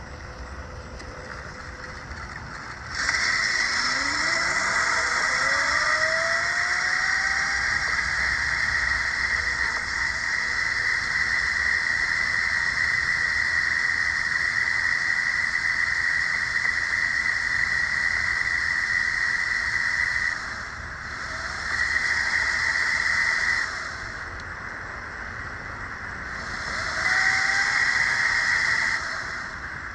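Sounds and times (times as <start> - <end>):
electric motor and chain whine: 0.0 - 29.9
hiss: 2.9 - 24.4, 26.2 - 29.9.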